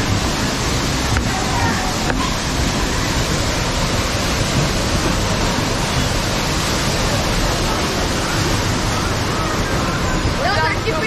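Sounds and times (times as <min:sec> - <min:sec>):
waterfall splashing into pool: 0:00.0 - 0:11.0.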